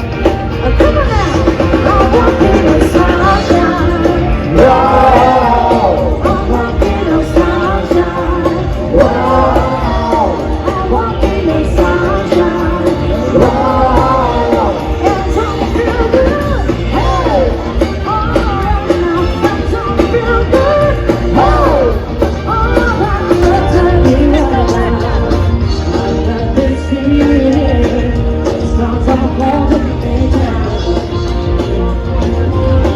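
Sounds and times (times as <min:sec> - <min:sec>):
person singing over full band: 0:00.0 - 0:32.9.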